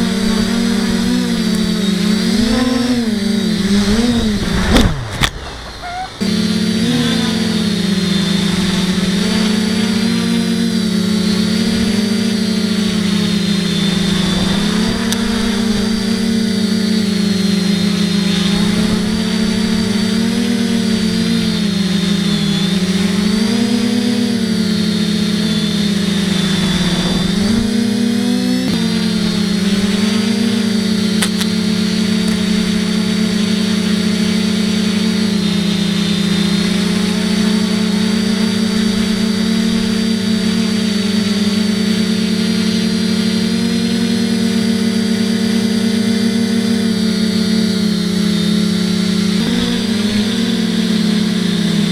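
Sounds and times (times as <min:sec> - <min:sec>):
quadcopter motors buzzing: 0:00.0 - 0:51.9.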